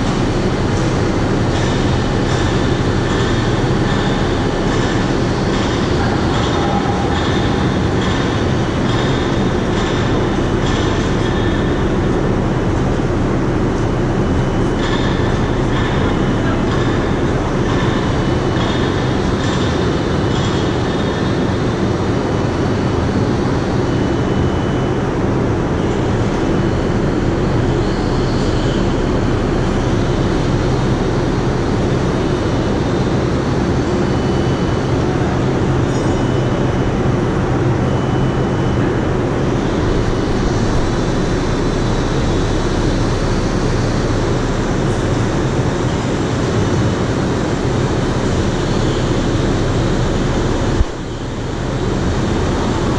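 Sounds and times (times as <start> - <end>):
machinery drone: 0.0 - 52.9.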